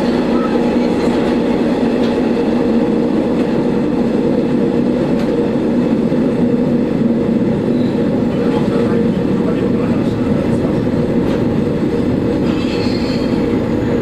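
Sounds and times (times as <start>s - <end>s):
railcar engine drone: 0.0s - 14.0s
train running noise: 0.0s - 14.0s.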